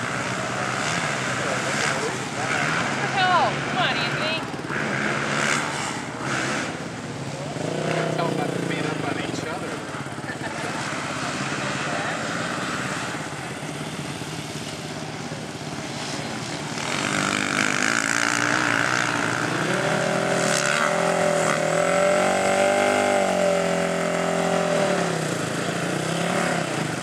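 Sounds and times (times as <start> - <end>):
quad engines revving: 0.0 - 27.0.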